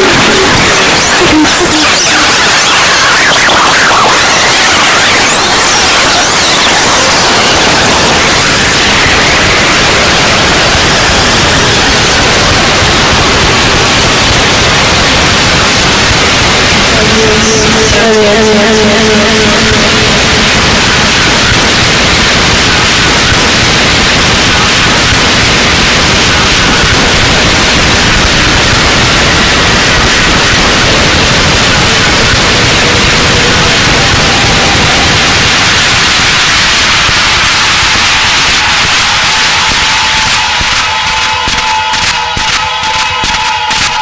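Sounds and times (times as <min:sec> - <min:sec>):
harsh static-like turntable noise: 0:00.0 - 0:44.0.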